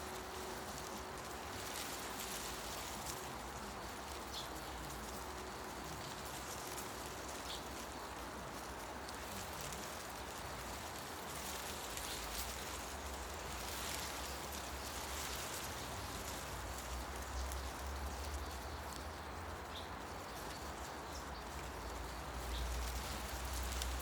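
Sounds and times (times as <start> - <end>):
leaves rustling in wind: 0.0 - 24.0.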